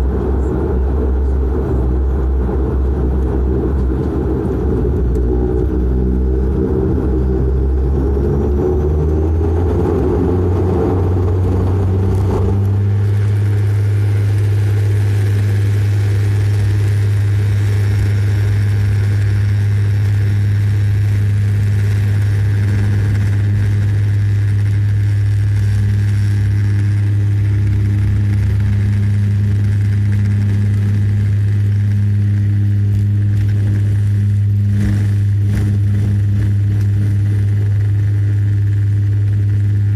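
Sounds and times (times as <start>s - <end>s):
turboprop propeller drone: 0.0s - 39.9s.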